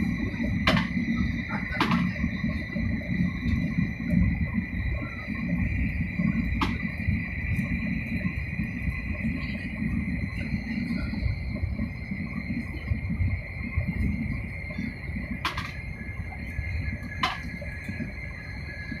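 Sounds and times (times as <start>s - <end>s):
high whine: 0.0s - 19.0s
train cabin low rumble: 0.0s - 19.0s.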